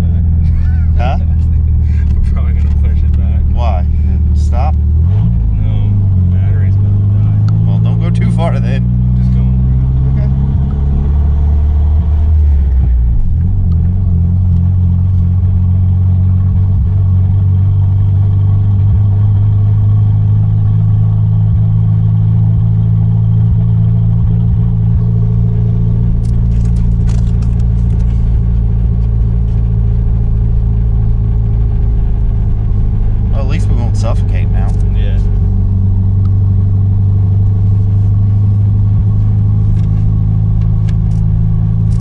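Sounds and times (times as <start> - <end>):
car engine humming at low revs: 0.0 - 42.0.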